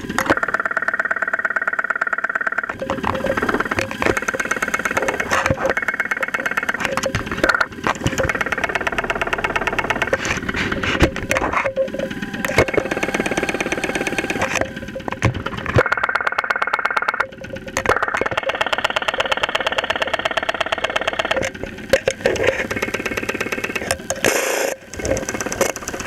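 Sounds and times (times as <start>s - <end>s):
engine clattering and knocking: 0.0s - 26.0s.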